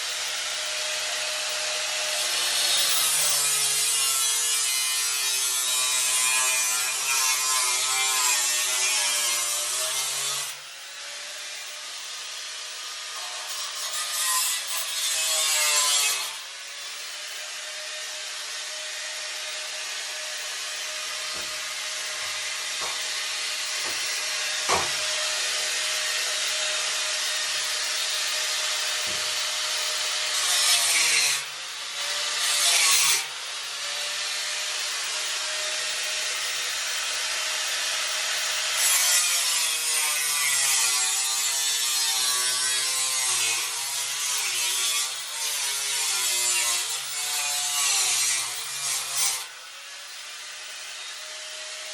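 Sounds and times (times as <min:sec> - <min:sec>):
angle grinder cutting steel: 0:00.0 - 0:51.9.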